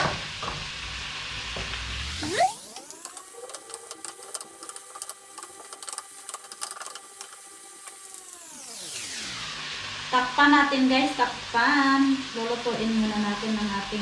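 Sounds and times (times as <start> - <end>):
pork frying in a pan: 0.0 - 14.0
multi-tone whine: 1.2 - 14.0.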